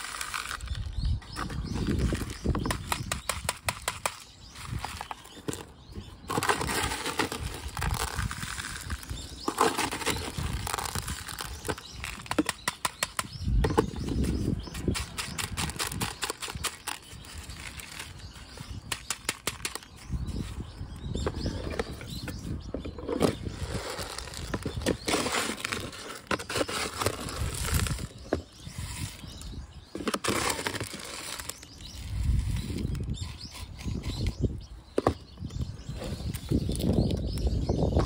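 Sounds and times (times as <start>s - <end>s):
soil rattling in plastic pot: 0.0s - 20.5s, 21.2s - 34.4s.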